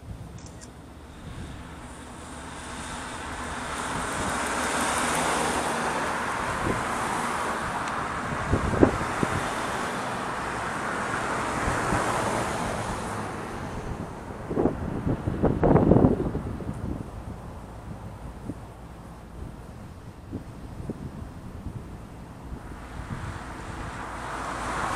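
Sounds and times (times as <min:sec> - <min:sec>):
cars passing: 0:00.0 - 0:24.9
wind gust: 0:00.9 - 0:24.9.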